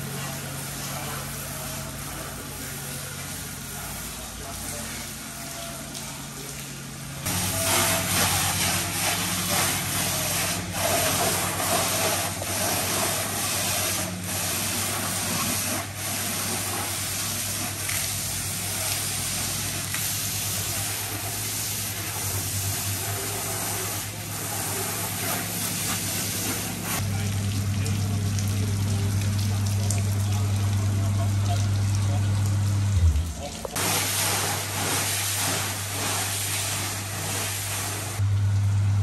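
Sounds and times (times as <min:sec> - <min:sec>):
high-pressure water spray hissing: 0:00.0 - 0:06.6, 0:07.2 - 0:27.2, 0:33.5 - 0:38.2.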